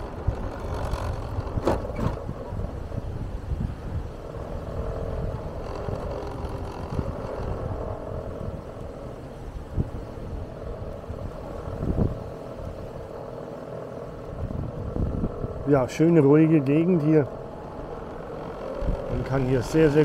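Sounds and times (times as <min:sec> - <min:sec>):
steady hum: 0:00.0 - 0:20.0
vehicle road and engine rumble: 0:00.0 - 0:20.0.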